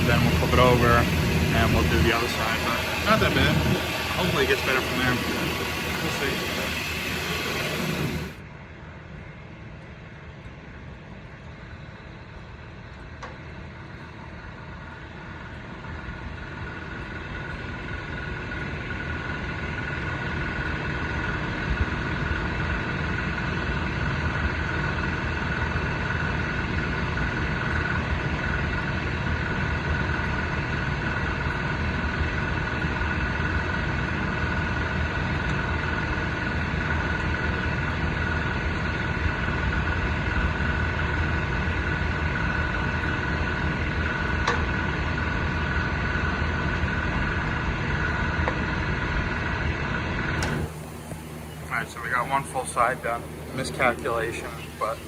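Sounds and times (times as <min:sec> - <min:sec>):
welding crackling sizzle: 0:00.0 - 0:08.4, 0:15.9 - 0:55.0.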